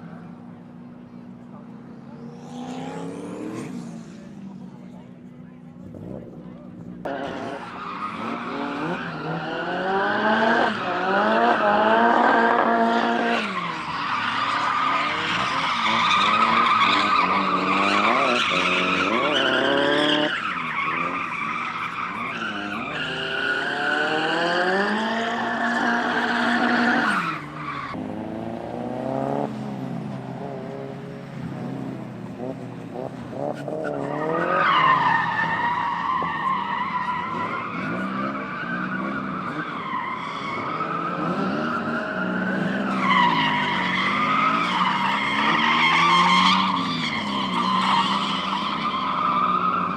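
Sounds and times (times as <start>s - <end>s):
car engines revving hard: 1.4s - 4.8s, 5.7s - 49.9s.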